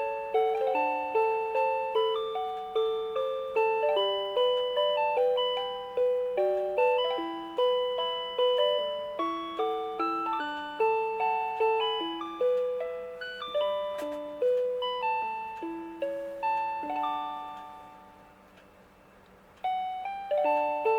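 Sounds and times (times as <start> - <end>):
alarm clock chime melody: 0.0 - 20.9.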